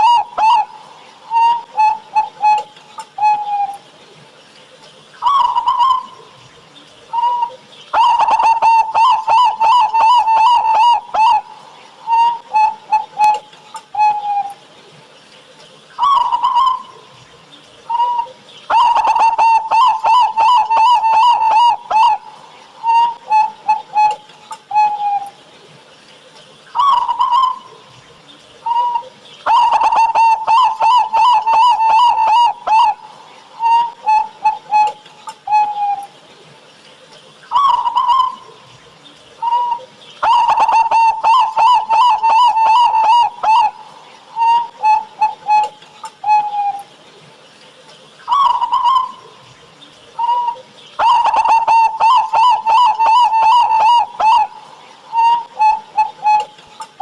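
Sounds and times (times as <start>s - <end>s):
dove cooing: 0.0s - 36.8s, 37.5s - 57.0s.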